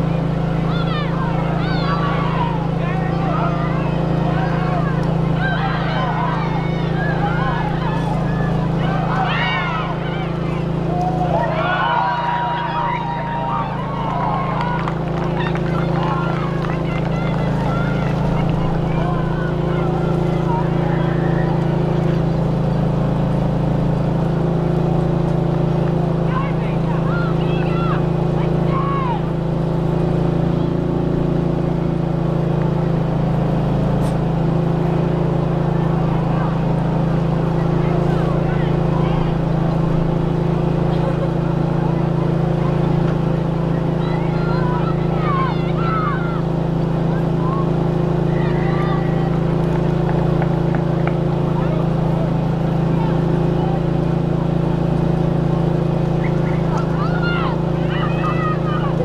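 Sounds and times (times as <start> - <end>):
low engine hum: 0.0 - 59.0
low motor drone: 0.0 - 59.0.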